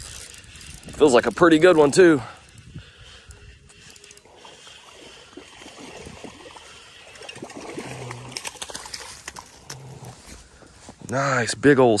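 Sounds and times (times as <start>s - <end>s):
water splashing and trickling: 0.0s - 10.7s.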